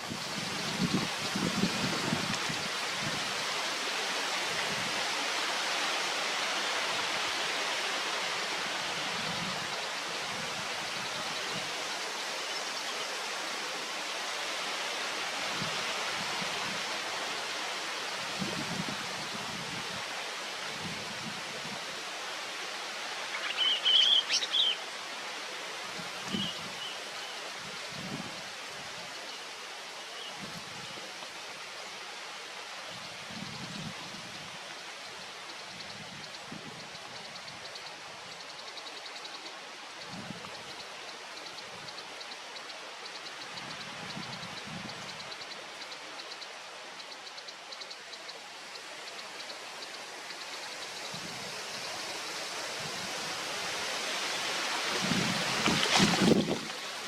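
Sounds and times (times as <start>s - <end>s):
outdoor hiss: 0.0s - 57.0s.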